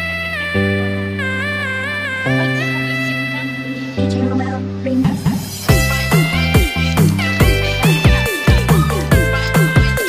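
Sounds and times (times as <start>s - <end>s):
synth chords: 0.0s - 10.0s.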